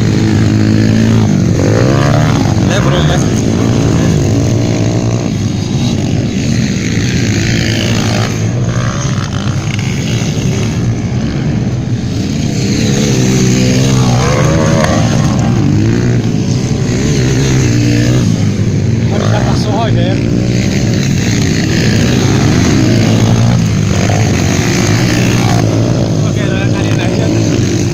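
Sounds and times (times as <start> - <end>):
motocross motorcycles racing: 0.0 - 27.9.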